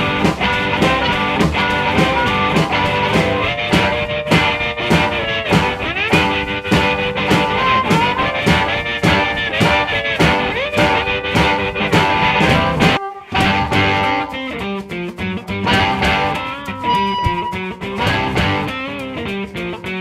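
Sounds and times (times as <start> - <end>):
guitar-led rock song: 0.0 - 20.0.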